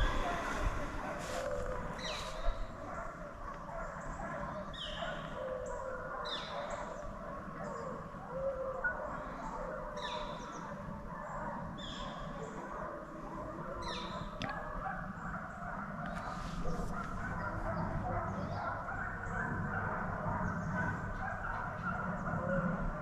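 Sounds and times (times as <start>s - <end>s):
distant hounds baying: 0.0s - 23.0s.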